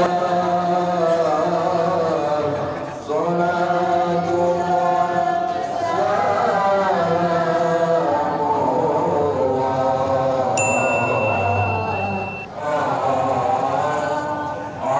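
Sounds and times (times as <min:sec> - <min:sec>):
group chanting: 0:00.0 - 0:10.6, 0:11.6 - 0:14.9.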